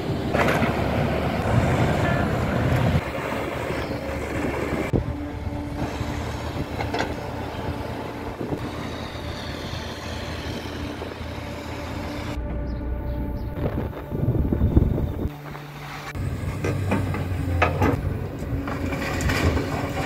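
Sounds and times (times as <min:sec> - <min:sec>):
heavy machinery diesel engines: 0:00.0 - 0:20.0.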